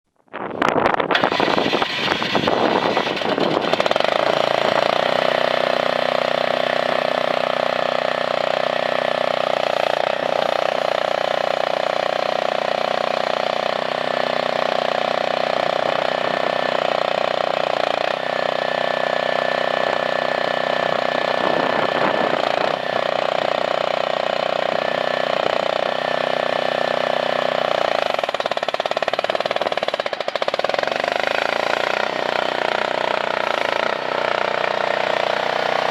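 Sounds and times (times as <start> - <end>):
small engine running: 0.6 - 35.9.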